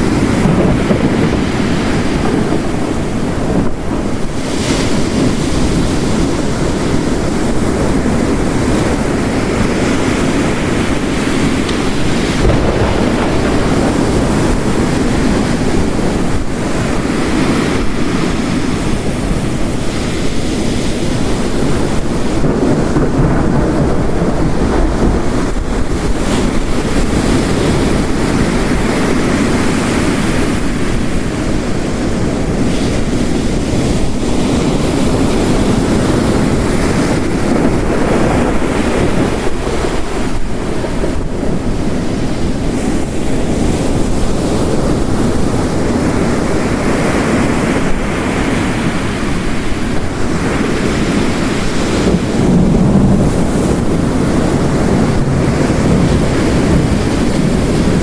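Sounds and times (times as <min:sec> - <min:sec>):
heavy rain hiss: 0:00.0 - 0:58.0
ocean waves breaking on shore: 0:00.0 - 0:58.0.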